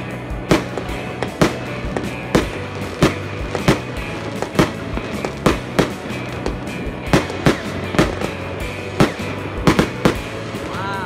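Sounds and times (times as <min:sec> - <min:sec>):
fireworks bangs: 0:00.4 - 0:11.0.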